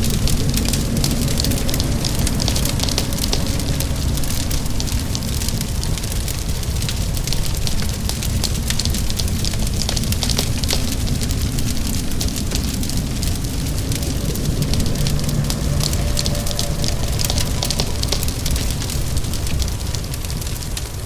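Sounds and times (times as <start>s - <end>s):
fire crackling and popping: 0.0s - 21.0s
low rumble: 0.0s - 21.0s
rain: 0.0s - 21.0s.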